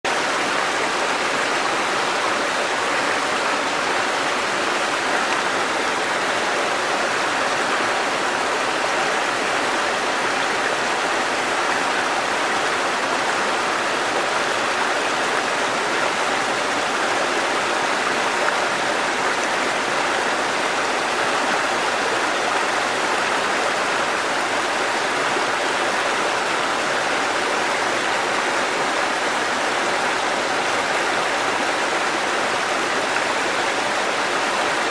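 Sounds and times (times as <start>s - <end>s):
small waterfall splashing: 0.0s - 34.9s.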